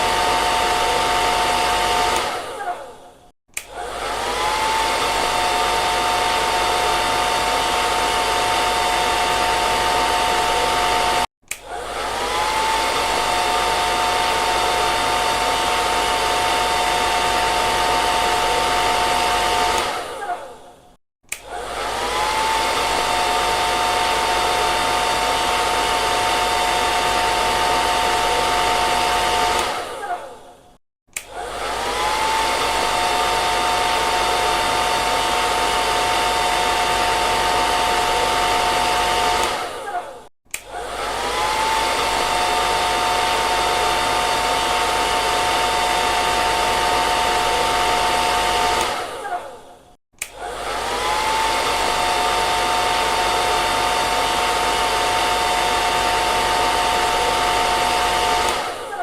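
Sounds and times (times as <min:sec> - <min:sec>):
hair dryer blowing: 0:00.0 - 0:30.5, 0:31.1 - 0:59.0.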